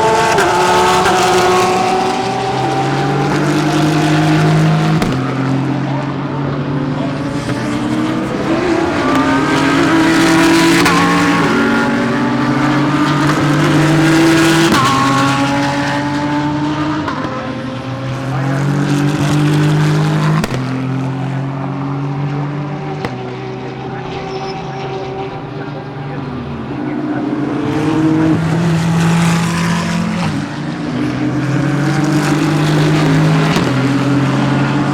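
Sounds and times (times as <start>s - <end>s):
race car engines at full throttle: 0.0s - 34.9s.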